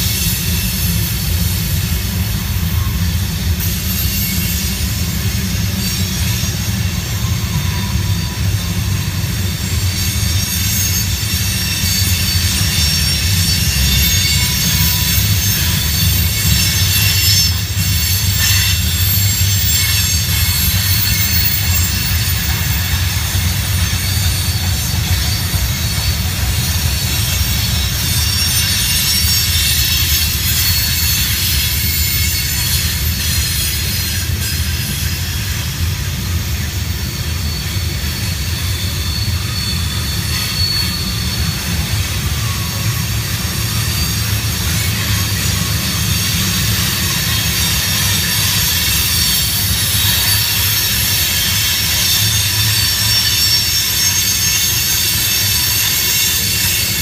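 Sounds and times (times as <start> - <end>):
train wheels rumbling on rails: 0.0 - 57.0
wheel flanges squealing: 0.0 - 57.0.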